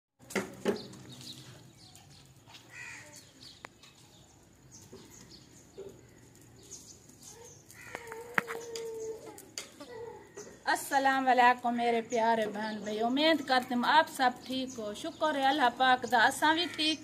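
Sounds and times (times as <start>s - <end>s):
birds chirping: 0.6s - 17.0s.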